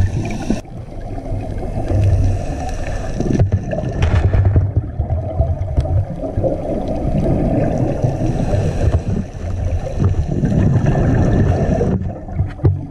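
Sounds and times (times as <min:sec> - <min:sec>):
underwater bubbles and water rush: 0:00.0 - 0:12.9.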